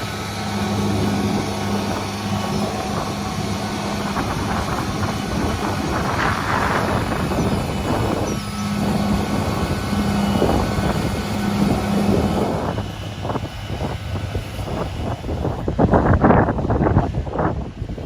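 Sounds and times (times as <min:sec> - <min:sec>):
construction machinery engine hum: 0:00.0 - 0:18.0.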